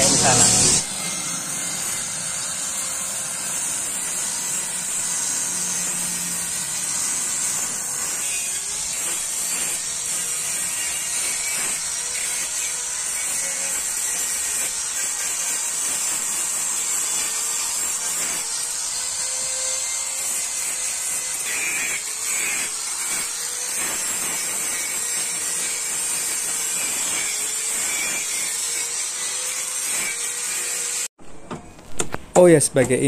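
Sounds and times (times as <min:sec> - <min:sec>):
power tool hissing: 0:00.0 - 0:31.1.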